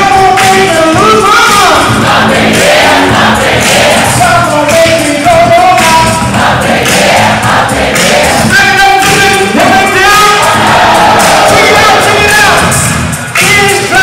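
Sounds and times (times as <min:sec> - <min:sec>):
music with singing voices: 0:00.0 - 0:14.0.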